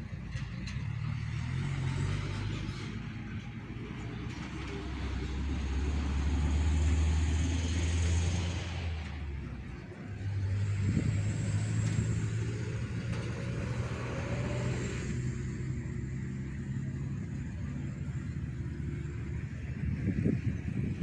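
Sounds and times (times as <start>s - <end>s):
heavy vehicle engine drone: 0.0s - 21.0s.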